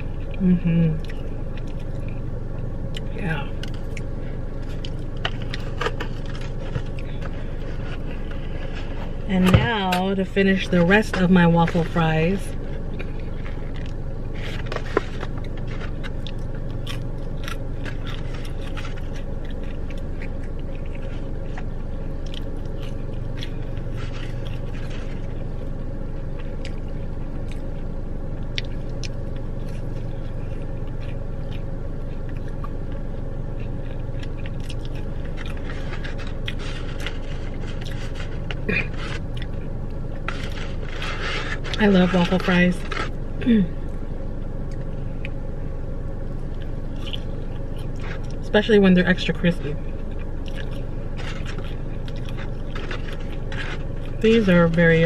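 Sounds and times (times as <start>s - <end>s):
chewing soggy fries: 0.0s - 9.4s, 10.6s - 55.0s
car hum: 0.0s - 55.0s.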